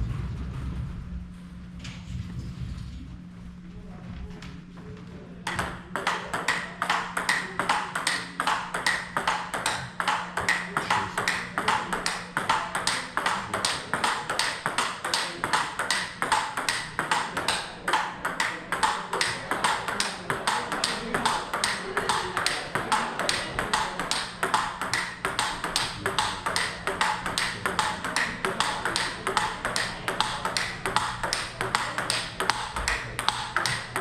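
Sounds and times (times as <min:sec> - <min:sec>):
table tennis ball clicks: 0:05.5 - 0:34.0.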